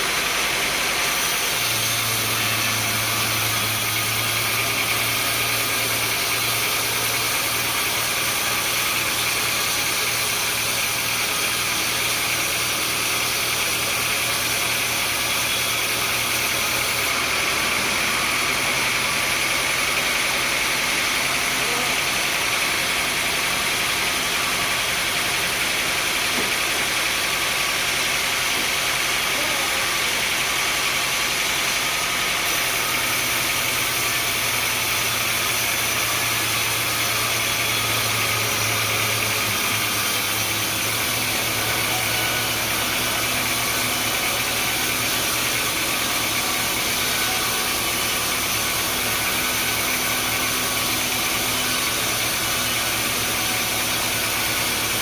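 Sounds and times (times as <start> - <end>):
sawmill machinery hum and hiss: 0.0 - 55.0.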